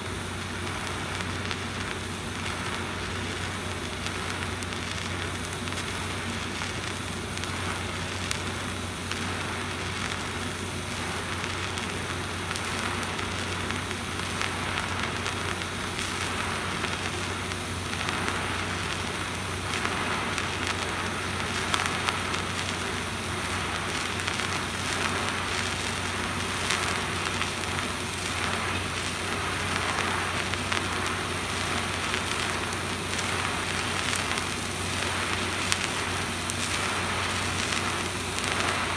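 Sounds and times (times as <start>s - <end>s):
sharp pops: 0.0s - 38.9s
welding arc crackling sizzle: 0.0s - 38.9s.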